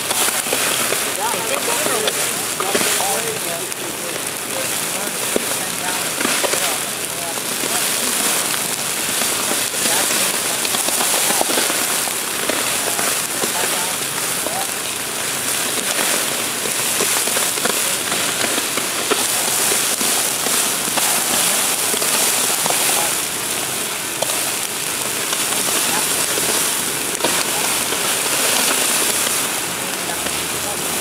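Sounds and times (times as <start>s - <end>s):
fire hissing and crackling: 0.0s - 31.0s.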